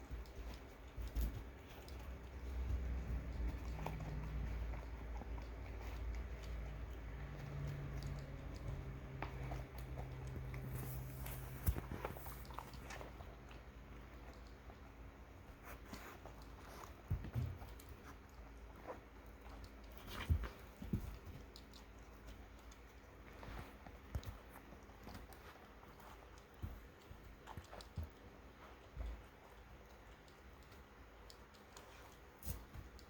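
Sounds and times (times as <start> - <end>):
animal crunching food: 0.0 - 33.0.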